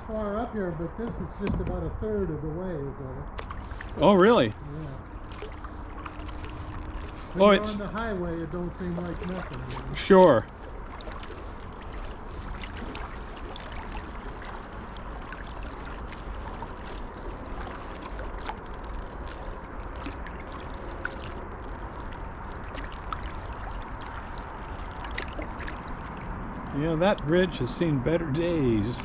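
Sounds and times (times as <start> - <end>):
steady low rumble: 0.0 - 29.0
paddle splashing water: 3.4 - 27.0.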